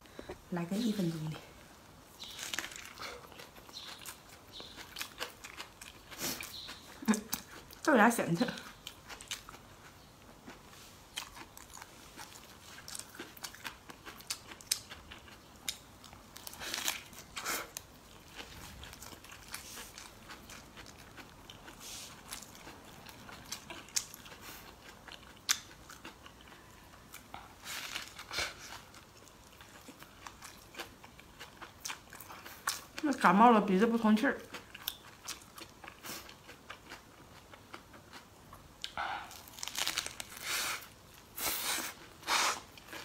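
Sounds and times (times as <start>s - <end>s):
crisp crunching of chewing: 2.2s - 33.2s, 34.4s - 43.0s.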